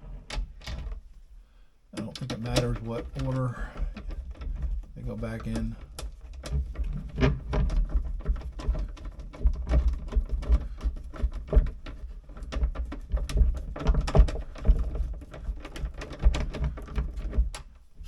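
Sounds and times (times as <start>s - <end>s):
low camera handling rumble: 2.0s - 18.0s.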